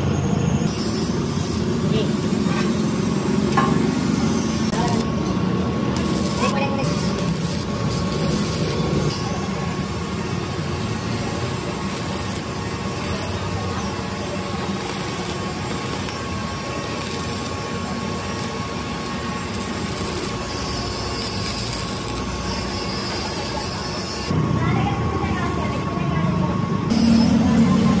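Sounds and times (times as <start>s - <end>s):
welding arc crackling and sizzling: 0.7s - 26.2s.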